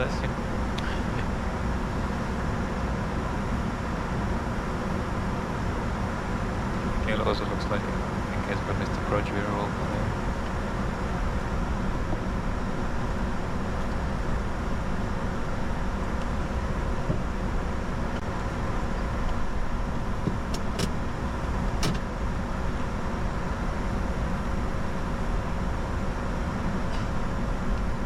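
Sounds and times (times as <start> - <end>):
aircraft cockpit rush: 0.0 - 28.0
faint hum: 0.0 - 28.0.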